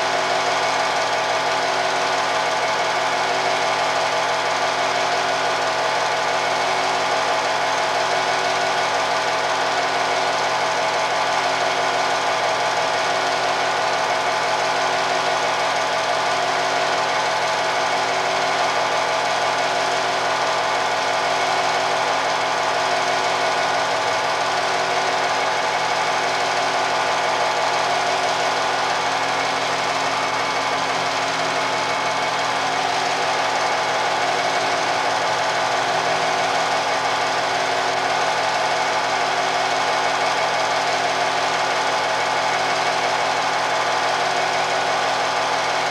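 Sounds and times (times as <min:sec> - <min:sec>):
film projector clattering: 0:00.0 - 0:45.9.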